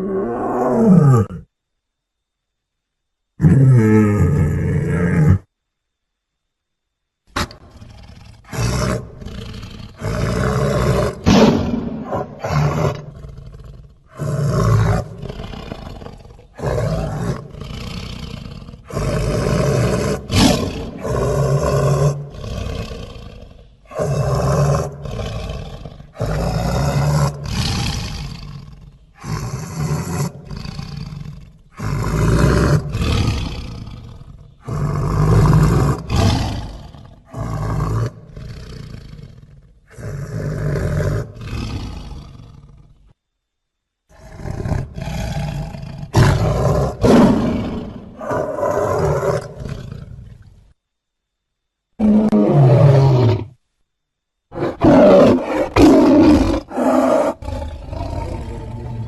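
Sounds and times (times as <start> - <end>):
big cat roars and growls: 0.0 - 1.5, 3.4 - 5.5, 7.3 - 43.2, 44.1 - 50.7, 52.0 - 53.6, 54.5 - 59.0.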